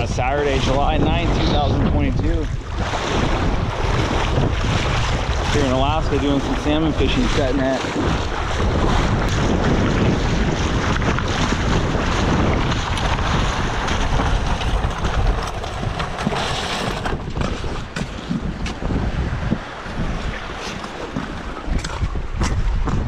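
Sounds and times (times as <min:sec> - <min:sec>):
water lapping at shore: 0:00.0 - 0:23.0
wind buffeting microphone: 0:00.0 - 0:23.0.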